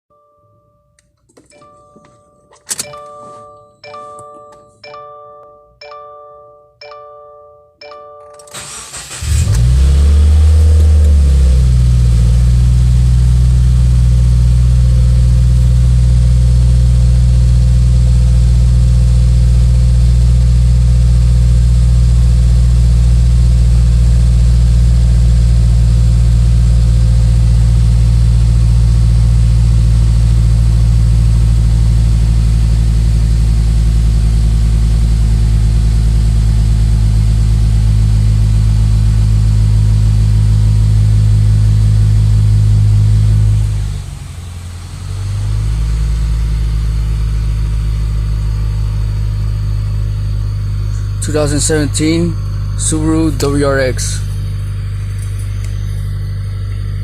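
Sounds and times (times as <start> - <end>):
car engine starting and idling: 1.0 - 5.1, 8.3 - 57.0.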